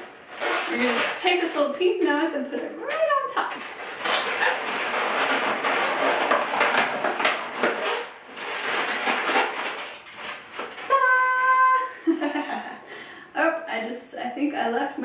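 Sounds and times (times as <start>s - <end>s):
balloons rubbing and squeaking: 0.0s - 12.5s.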